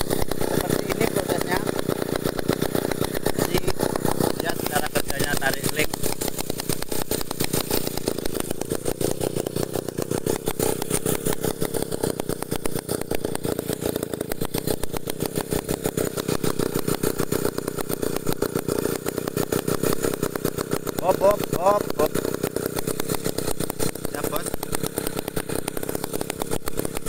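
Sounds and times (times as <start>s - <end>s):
small winch engine running: 0.0s - 27.0s.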